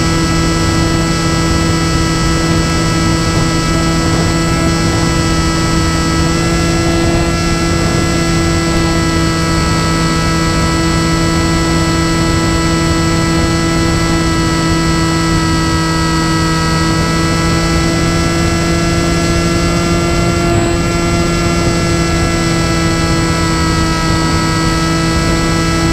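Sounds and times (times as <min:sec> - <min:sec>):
electric motor and propeller whine: 0:00.0 - 0:25.9
wind rushing over airframe: 0:00.0 - 0:25.9.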